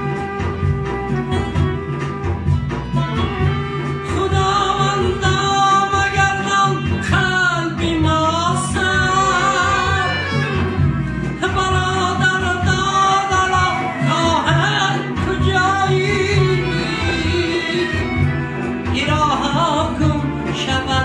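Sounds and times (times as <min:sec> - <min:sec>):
instrumental backing with bass: 0:00.0 - 0:21.0.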